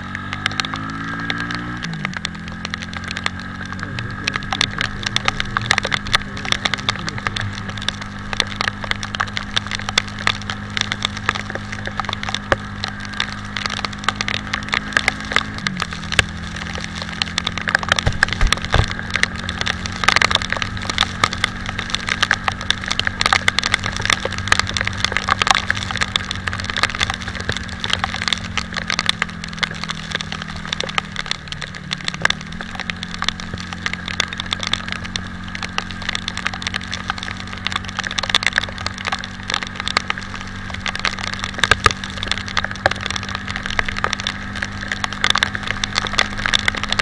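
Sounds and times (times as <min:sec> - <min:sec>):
motorcycle engine running: 0:00.0 - 0:47.0
raindrops hitting microphone: 0:00.0 - 0:47.0.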